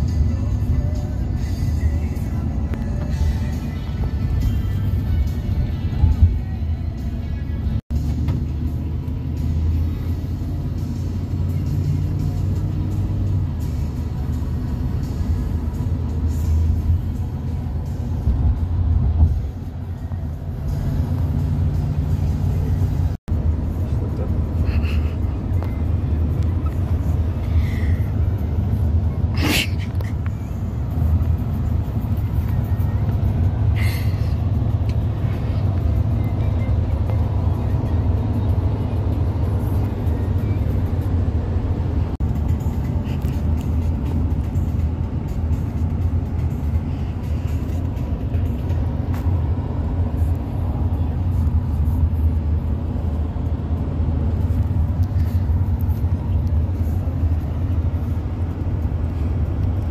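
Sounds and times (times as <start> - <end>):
van engine rumble: 0.0 - 59.9.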